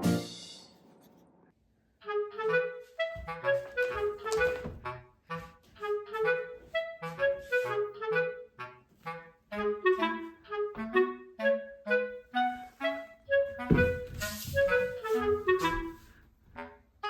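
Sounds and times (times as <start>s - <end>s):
bouncy woodwind tune: 2.0s - 16.9s.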